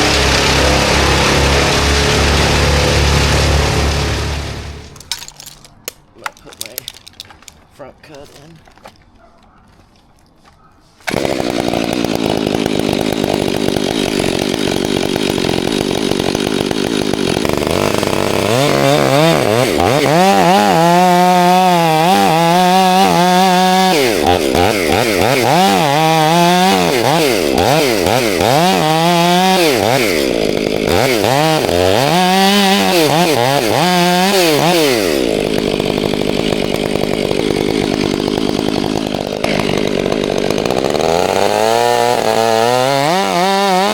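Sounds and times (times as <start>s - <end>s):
chainsaw cutting wood: 0.0s - 5.5s, 11.0s - 43.9s.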